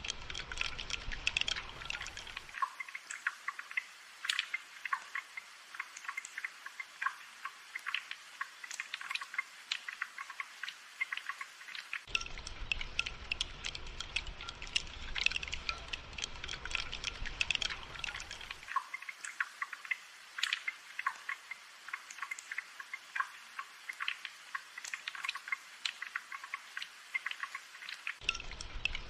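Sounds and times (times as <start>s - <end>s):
rain dripping and pattering: 0.0s - 29.0s.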